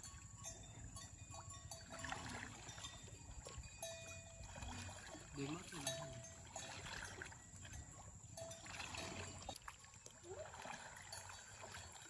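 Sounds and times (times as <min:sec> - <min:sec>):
pond water sloshing and splashing: 0:00.0 - 0:12.0.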